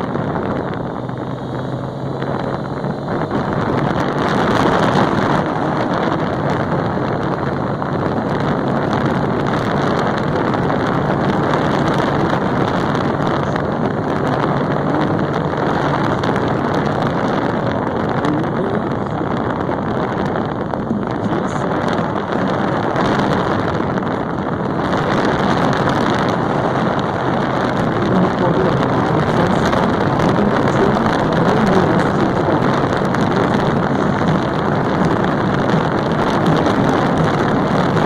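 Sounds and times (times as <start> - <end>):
motorcycle engine running: 0.0 - 38.0
wind rushing over microphone: 0.0 - 38.0.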